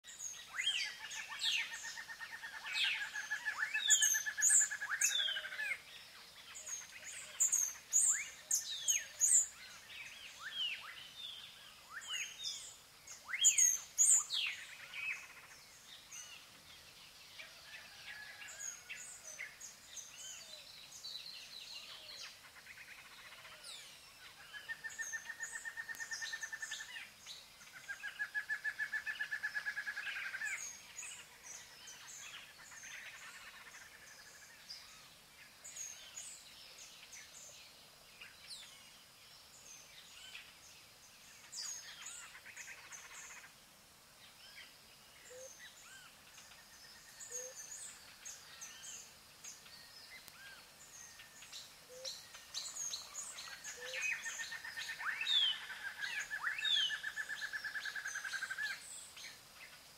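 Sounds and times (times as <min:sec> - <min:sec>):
birds twittering: 0:00.0 - 0:43.6, 0:44.3 - 0:59.8.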